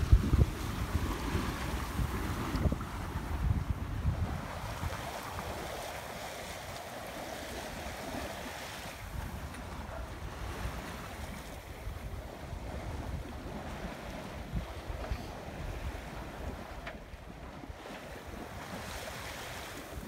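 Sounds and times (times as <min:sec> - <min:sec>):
water rushing past hull: 0:00.0 - 0:20.0
wind buffeting microphone: 0:00.0 - 0:20.0.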